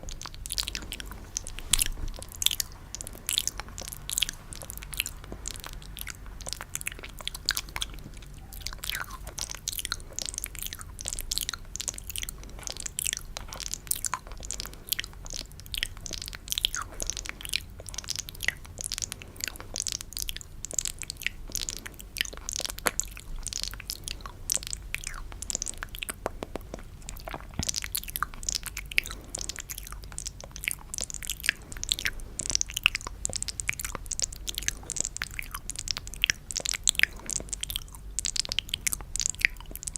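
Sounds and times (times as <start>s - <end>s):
wet mouth clicks and smacks: 0.0s - 39.9s.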